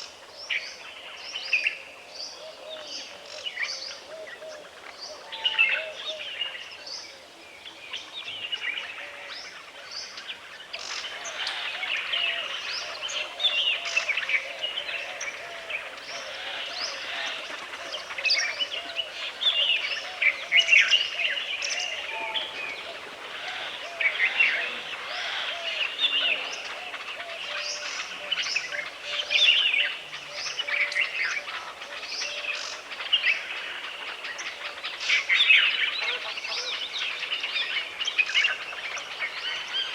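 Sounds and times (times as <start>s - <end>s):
birds chirping: 0.0s - 39.9s
faint background hiss: 0.0s - 39.9s.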